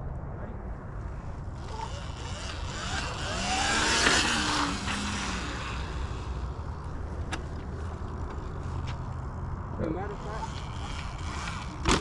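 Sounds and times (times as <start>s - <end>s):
motor vehicle passing: 1.0s - 12.0s.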